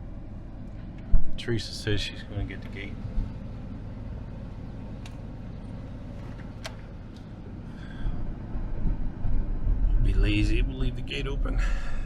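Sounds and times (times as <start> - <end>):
vehicle engine idling: 0.0 - 10.4.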